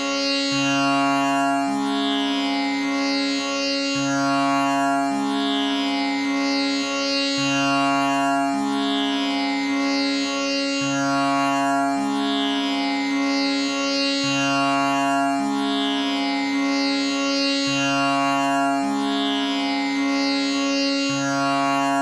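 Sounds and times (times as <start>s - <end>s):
tanpura drone: 0.0s - 22.0s.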